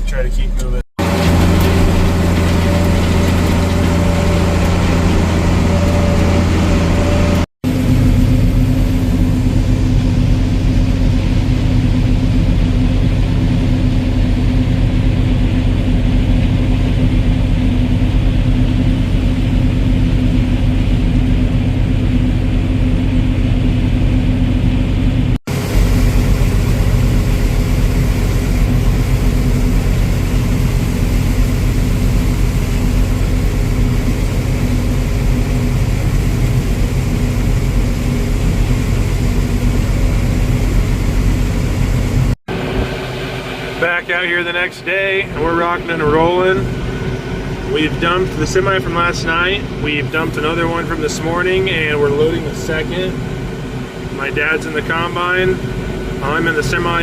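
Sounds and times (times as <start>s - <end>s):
heavy farm vehicle engine droning: 0.0s - 57.0s.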